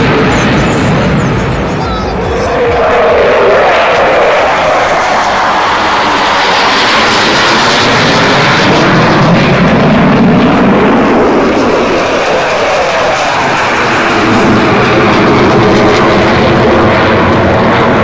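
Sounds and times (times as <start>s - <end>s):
jet fighters roaring overhead: 0.0s - 18.0s.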